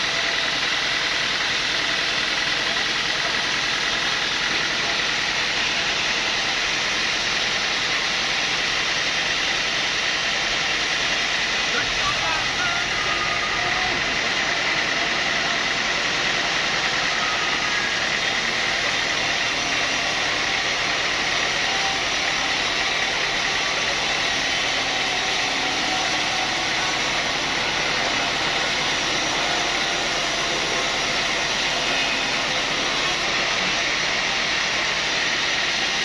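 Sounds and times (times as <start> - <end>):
sawmill saw running: 0.0 - 36.0.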